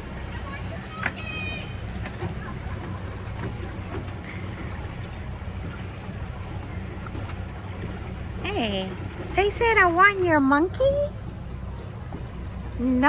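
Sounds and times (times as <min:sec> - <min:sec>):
motorboat engine humming: 0:00.0 - 0:13.0
wind and water rushing: 0:00.0 - 0:13.0.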